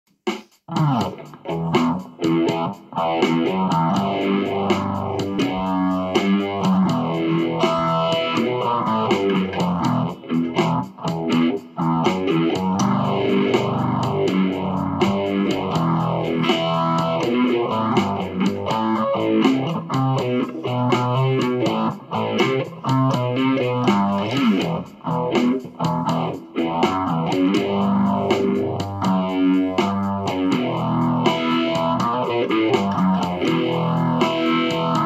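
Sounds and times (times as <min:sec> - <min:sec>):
overdriven electric guitar: 0:00.7 - 0:35.0.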